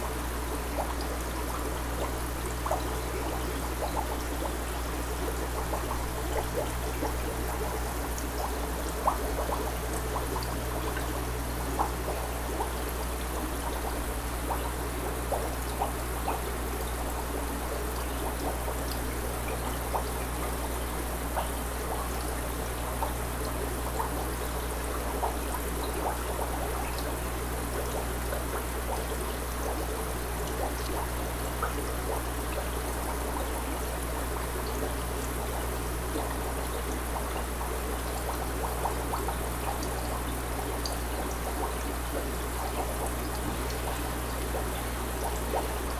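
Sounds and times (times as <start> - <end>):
aquarium airstone bubbling: 0.0 - 45.9
low steady hum: 0.0 - 45.9.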